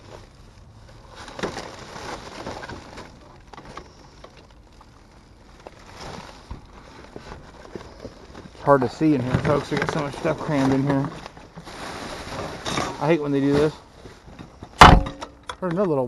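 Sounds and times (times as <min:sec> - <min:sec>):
junk rustling and clattering: 0:00.0 - 0:16.0.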